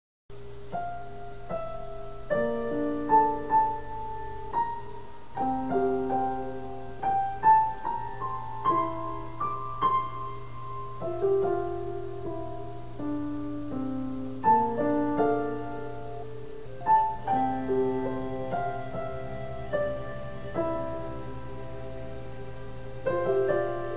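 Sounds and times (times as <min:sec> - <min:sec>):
solo piano music: 0:00.4 - 0:23.9.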